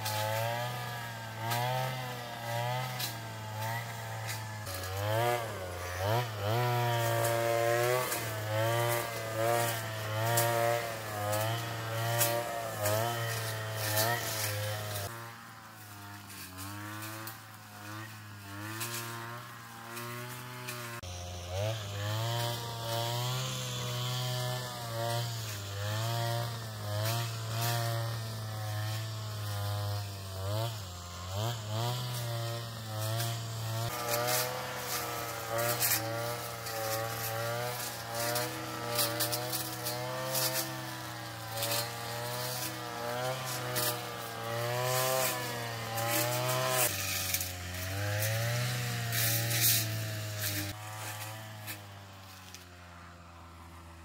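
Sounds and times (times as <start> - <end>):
brush cutter engine cutting grass: 0.0 - 54.0.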